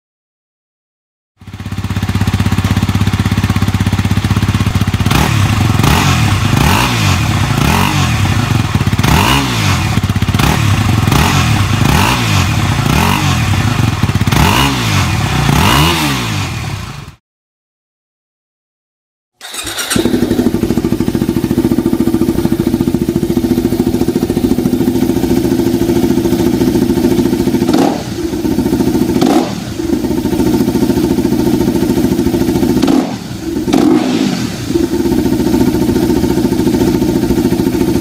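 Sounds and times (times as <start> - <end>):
motorcycle engine idling and revving: 1.4 - 17.2, 19.4 - 38.0.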